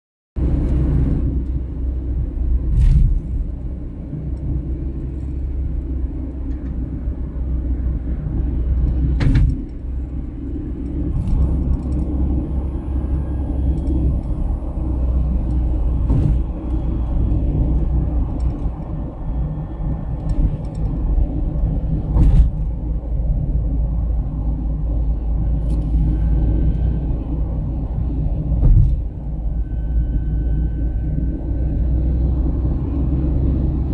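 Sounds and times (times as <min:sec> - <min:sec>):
low rumble of tyres and engine: 0:00.4 - 0:33.9.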